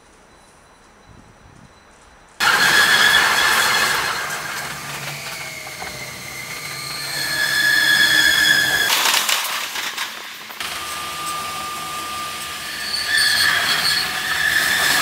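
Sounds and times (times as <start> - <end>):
wheels squealing on rails: 0.0 - 15.0.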